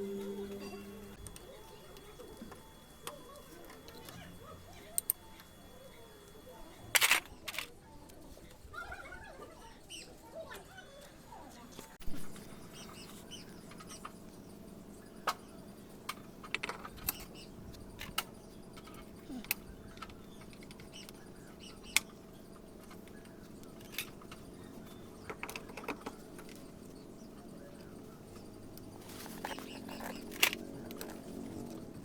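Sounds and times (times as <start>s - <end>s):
steady low hum: 0.0s - 8.7s, 11.3s - 32.0s.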